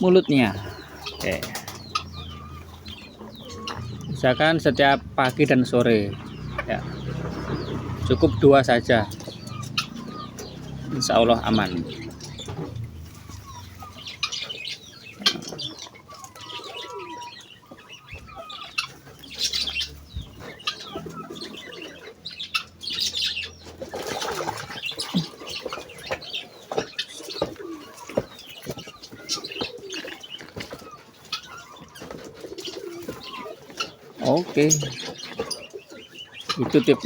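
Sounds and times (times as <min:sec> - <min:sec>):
chickens calling and chirping: 0:00.0 - 0:37.0
wings flapping and scuffling: 0:00.0 - 0:37.0.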